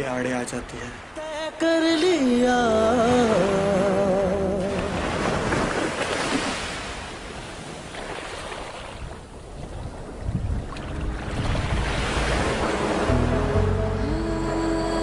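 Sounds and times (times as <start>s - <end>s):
waves washing: 0.0s - 15.0s
wind: 0.0s - 15.0s.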